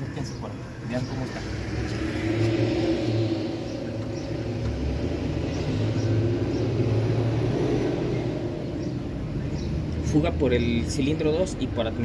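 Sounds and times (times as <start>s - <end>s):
low mechanical rumble: 0.0s - 11.6s.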